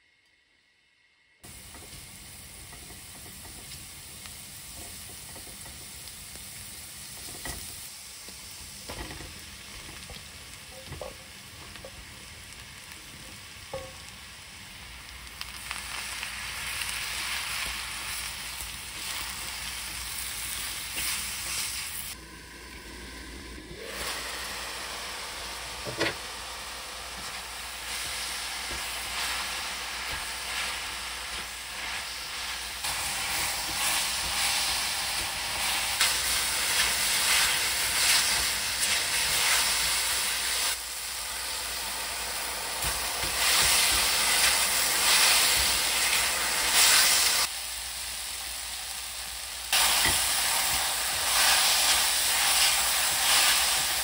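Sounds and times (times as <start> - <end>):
garlic sizzling in a frying pan: 1.4 - 54.0.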